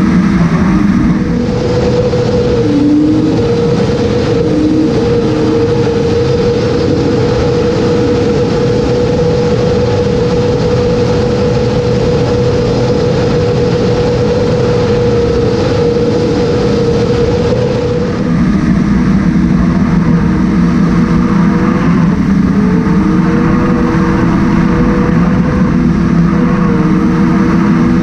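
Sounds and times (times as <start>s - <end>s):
jet boat engine running hard: 0.0s - 28.0s
loud rushing noise: 0.0s - 28.0s.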